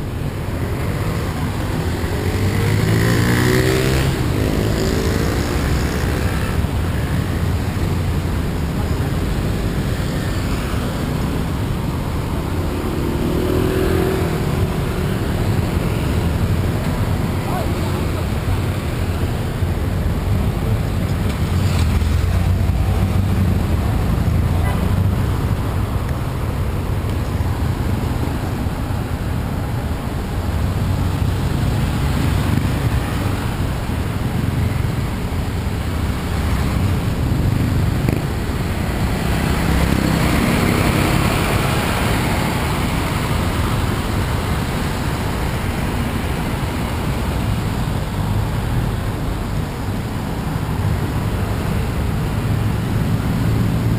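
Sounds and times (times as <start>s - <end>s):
city traffic rumble: 0.0s - 53.9s.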